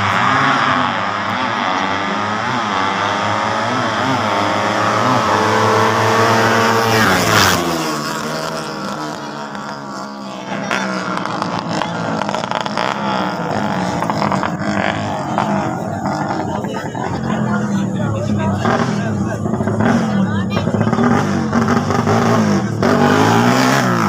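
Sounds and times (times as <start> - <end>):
motorcycle engines passing at high revs: 0.0 - 24.0
motorcycle engines revving: 0.0 - 24.0.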